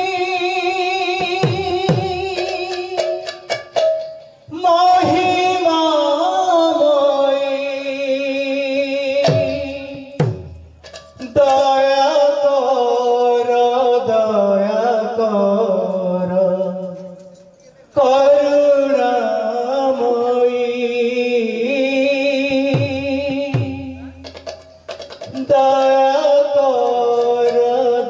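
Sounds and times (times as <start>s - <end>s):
man singing devotional song: 0.0s - 28.0s.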